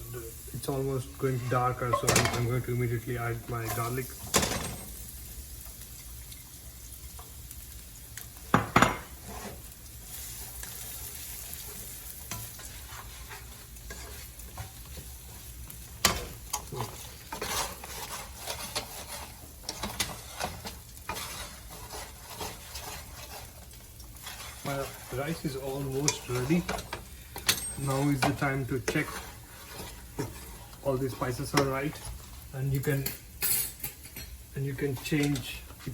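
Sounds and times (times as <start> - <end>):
utensil scraping wok: 0.0 - 7.6, 8.4 - 35.9
food sizzling in hot oil: 0.0 - 35.9.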